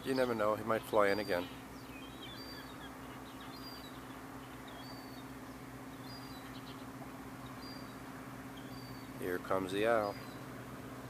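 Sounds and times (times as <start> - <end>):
low mechanical hum: 0.0 - 11.0
small birds chirping: 0.0 - 11.0.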